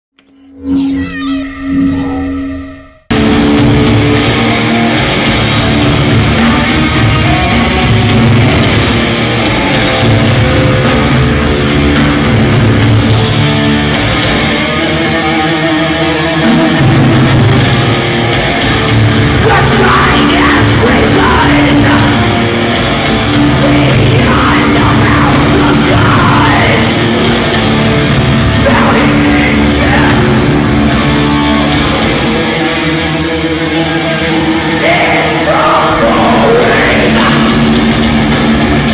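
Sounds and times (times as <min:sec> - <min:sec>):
heavy metal music: 0:00.2 - 0:38.9.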